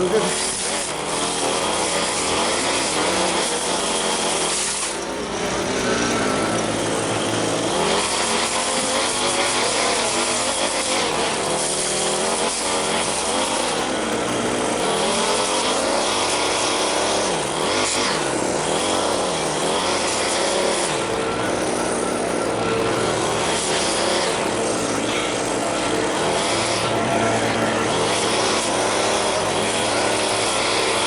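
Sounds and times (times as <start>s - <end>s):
lawn equipment gas engine running: 0.0s - 31.0s.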